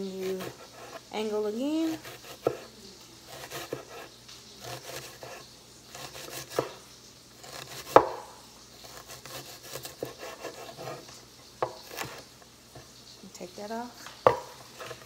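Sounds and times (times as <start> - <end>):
knife slicing onion on board: 0.0 - 1.1, 1.8 - 6.8, 7.4 - 12.9, 14.0 - 15.0.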